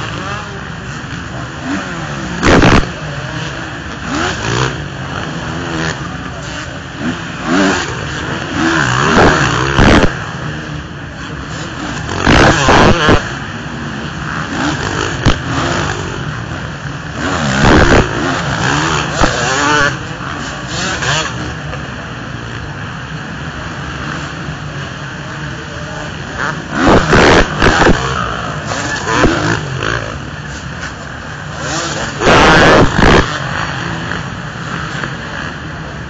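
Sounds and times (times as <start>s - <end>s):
drone of bikes on track: 0.0s - 36.0s
motocross bikes revving: 0.0s - 36.0s.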